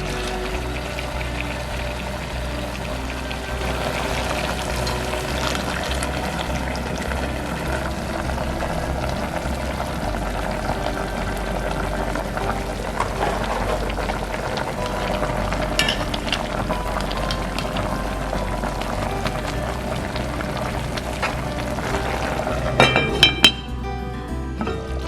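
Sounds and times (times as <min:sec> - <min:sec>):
food sizzling and bubbling: 0:00.0 - 0:23.8.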